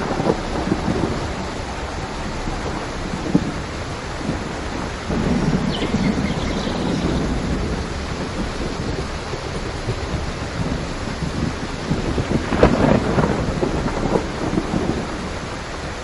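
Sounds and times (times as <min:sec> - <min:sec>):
heavy rain: 0:00.0 - 0:16.0
low rumble of thunder: 0:00.0 - 0:16.0.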